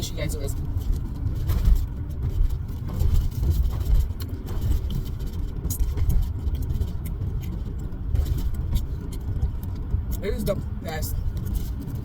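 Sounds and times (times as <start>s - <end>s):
car cabin rumble: 0.0s - 12.0s
faint clicks and rustles: 0.0s - 12.0s.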